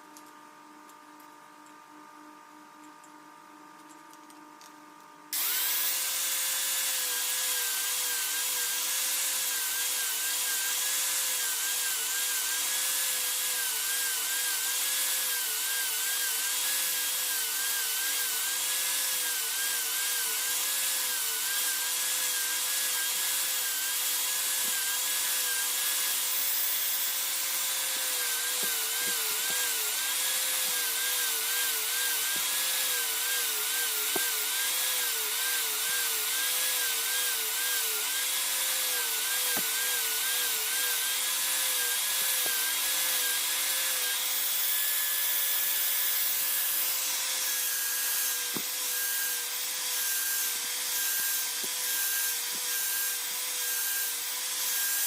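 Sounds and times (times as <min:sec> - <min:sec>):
power tool whining: 0:05.3 - 0:55.0.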